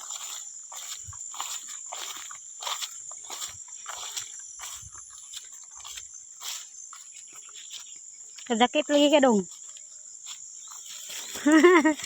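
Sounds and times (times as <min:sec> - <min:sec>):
insects trilling: 0:00.0 - 0:12.0
scuffing or snuffling noises: 0:00.0 - 0:12.0.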